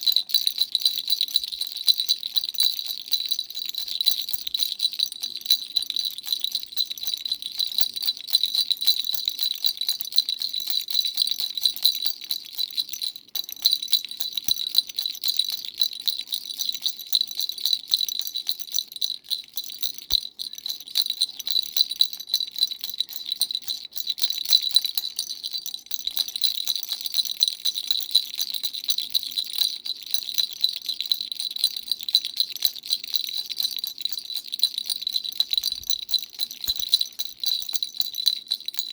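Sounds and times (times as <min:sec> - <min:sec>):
baby rattle shaken: 0:00.0 - 0:38.9.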